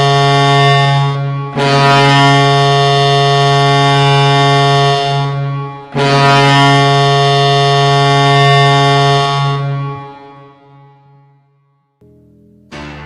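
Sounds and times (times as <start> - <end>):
hockey goal horn blasts: 0.0 - 12.0.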